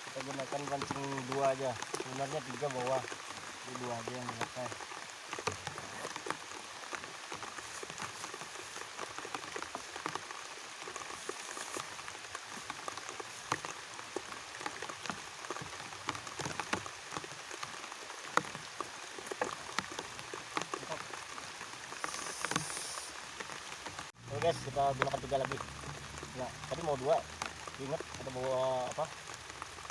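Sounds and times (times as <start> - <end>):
raindrops ticking: 0.0 - 29.9
steady rain: 0.0 - 29.9.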